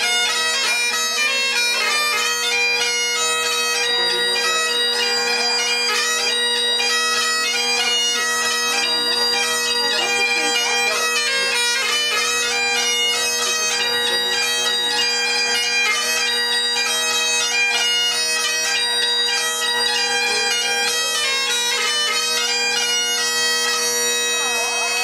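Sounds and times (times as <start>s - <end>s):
bagpipe playing quick melody: 0.0s - 25.0s.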